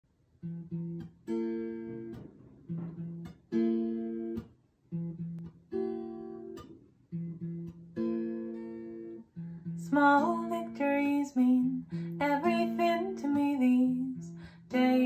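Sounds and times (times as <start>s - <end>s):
acoustic guitar strummed chords: 0.4s - 15.0s.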